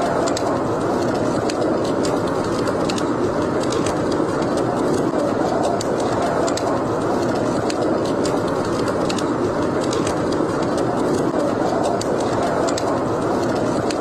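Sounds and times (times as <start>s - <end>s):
fire crackling: 0.0s - 14.0s
howling blizzard wind: 0.0s - 14.0s.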